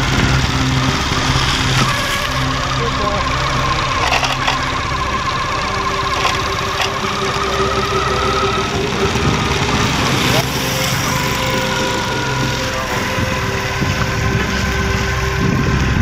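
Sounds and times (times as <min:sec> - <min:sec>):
small vehicle engine running: 0:00.0 - 0:16.0
wavering whine: 0:00.0 - 0:16.0.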